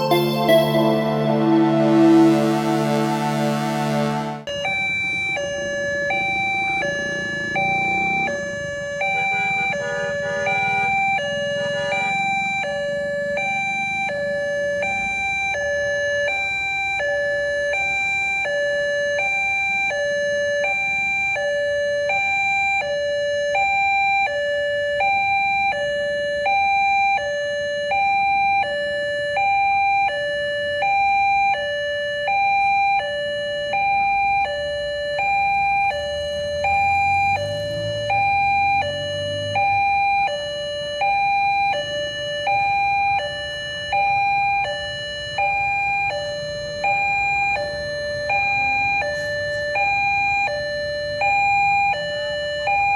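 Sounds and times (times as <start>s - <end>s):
two-tone level-crossing siren: 0.0s - 52.9s.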